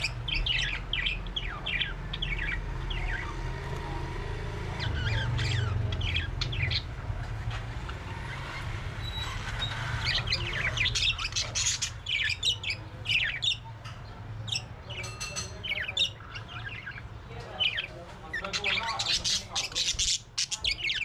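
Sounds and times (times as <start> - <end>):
parrots chirping and squawking: 0.0 - 3.7, 4.6 - 21.0.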